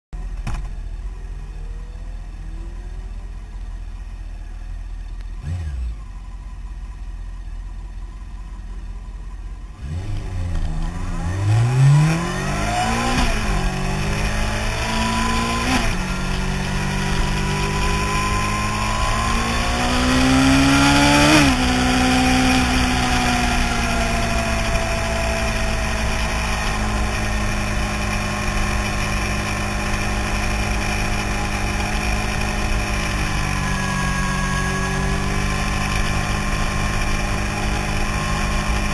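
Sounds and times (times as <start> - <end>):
motorcycle engine accelerating: 0.2 - 38.9.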